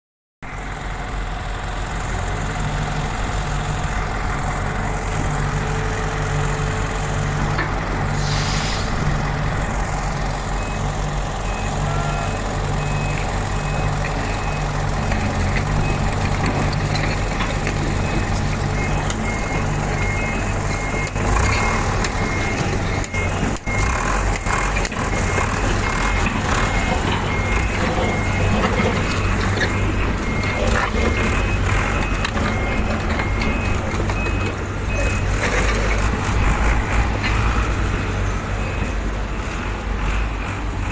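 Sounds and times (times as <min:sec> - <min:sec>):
heavy machine engine running: 0:00.4 - 0:40.9.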